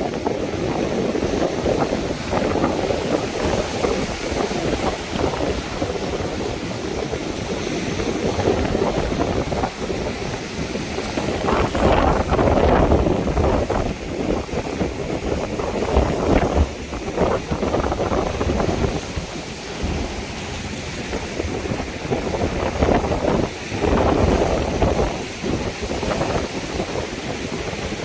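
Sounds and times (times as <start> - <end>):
sea surf breaking on shore: 0.0 - 28.0
wind buffeting microphone: 0.0 - 28.0.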